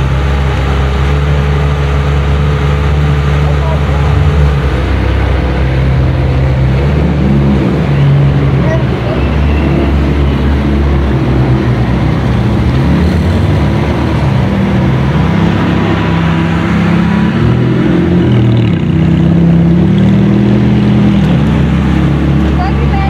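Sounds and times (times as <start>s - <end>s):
sports car engines at low speed: 0.0s - 23.0s.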